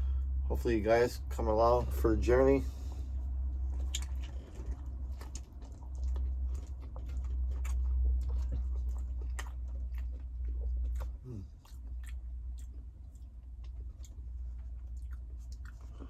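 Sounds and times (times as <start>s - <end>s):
steady low hum: 0.0s - 16.0s
person chewing food: 2.7s - 16.0s.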